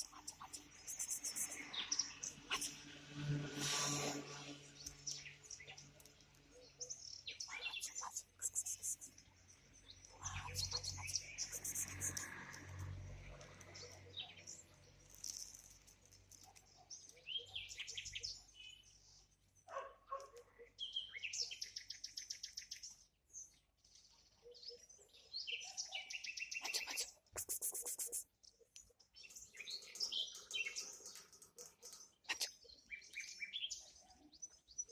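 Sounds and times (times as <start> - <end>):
songbirds chirping and trilling: 0.0 - 34.9.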